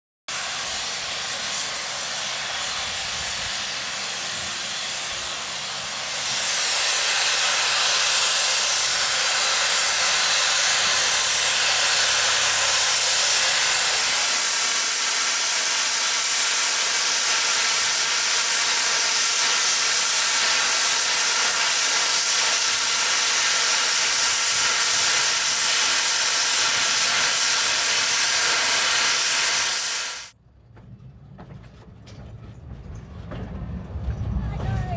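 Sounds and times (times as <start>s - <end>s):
steam locomotive hissing steam: 0.3s - 30.4s.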